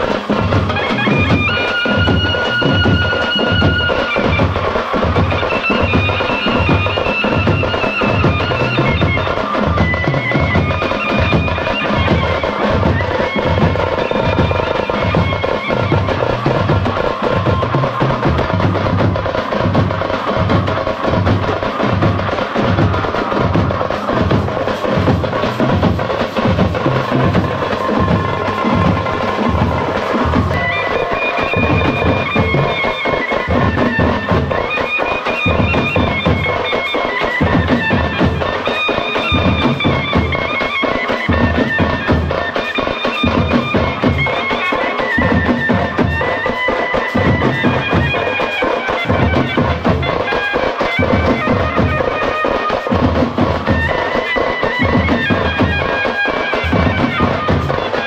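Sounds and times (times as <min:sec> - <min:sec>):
frame drums beating: 0:00.0 - 0:58.0
wind instrument melody: 0:00.0 - 0:58.0.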